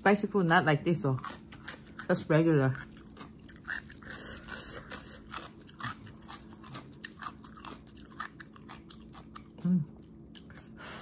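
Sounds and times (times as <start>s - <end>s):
person chewing noodles: 1.2s - 11.0s.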